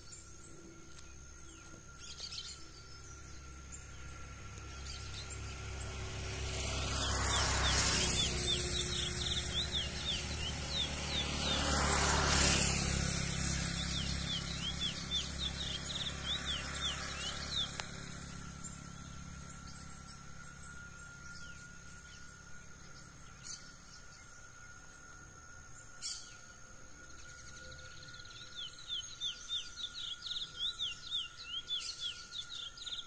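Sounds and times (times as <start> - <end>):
finch singing chirped notes: 0.0 - 24.2, 27.4 - 33.0.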